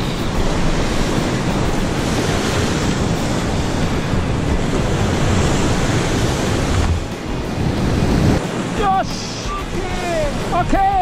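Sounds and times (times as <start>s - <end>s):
surf on rocky shore: 0.0s - 11.0s
wind buffeting microphone: 0.0s - 11.0s.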